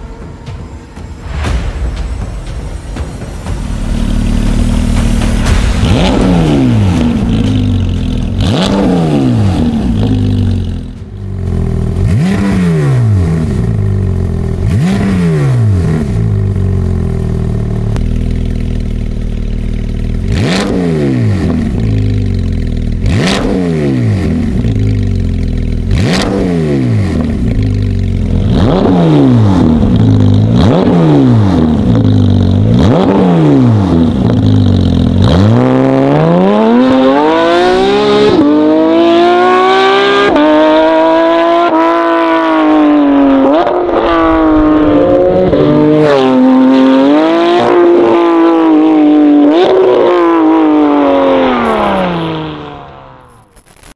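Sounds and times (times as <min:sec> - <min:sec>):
car engine revving: 0:03.6 - 0:53.7.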